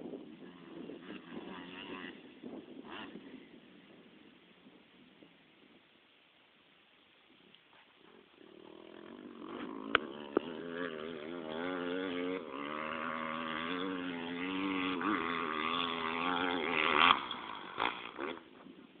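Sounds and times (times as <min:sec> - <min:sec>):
motocross motorcycle engine: 0:00.0 - 0:05.7, 0:07.7 - 0:19.0.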